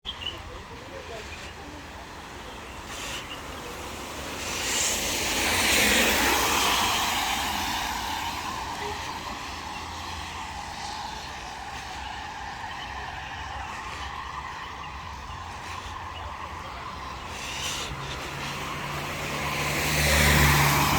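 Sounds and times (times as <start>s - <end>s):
car tyres hissing on wet road: 0.3s - 20.9s.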